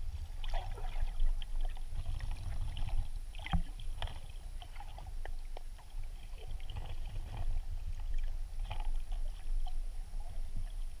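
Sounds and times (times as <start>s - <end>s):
underwater rumble of moving water: 0.0s - 11.0s.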